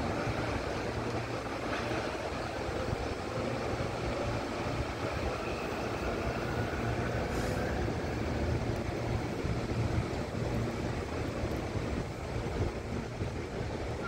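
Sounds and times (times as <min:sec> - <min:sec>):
train rumbling over tracks: 0:00.0 - 0:14.0.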